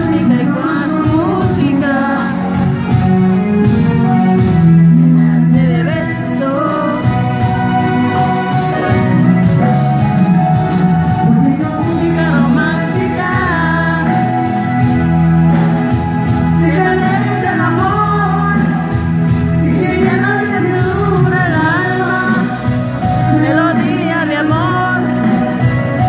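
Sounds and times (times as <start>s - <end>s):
lead singer's voice: 0.0s - 26.0s
live band playing: 0.0s - 26.0s.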